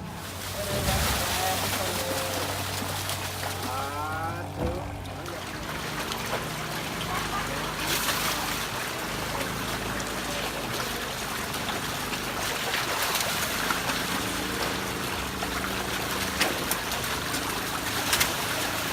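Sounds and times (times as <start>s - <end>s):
water running and trickling: 0.0s - 18.9s.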